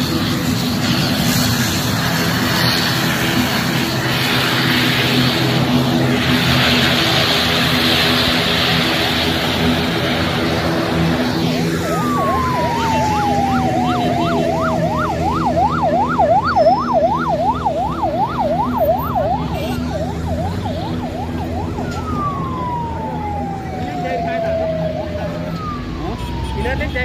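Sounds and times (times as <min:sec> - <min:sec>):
siren falling wail: 0:00.0 - 0:27.0
siren yelp: 0:00.0 - 0:27.0.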